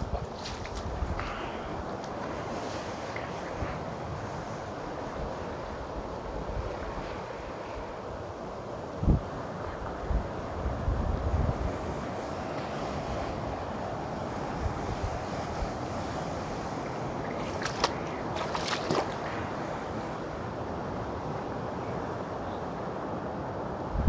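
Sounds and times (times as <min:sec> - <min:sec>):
sea waves washing on rocks: 0:00.0 - 0:22.2.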